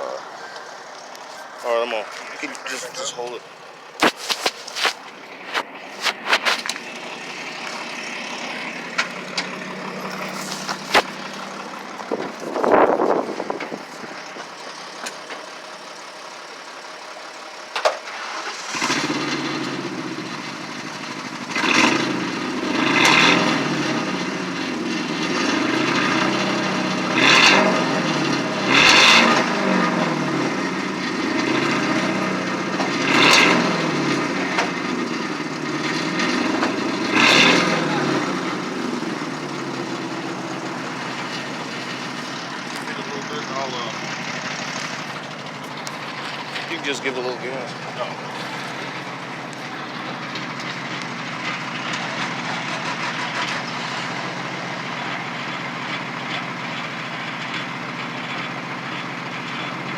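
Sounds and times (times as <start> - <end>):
car engine starting and revving: 0.9 - 15.2, 17.2 - 59.9.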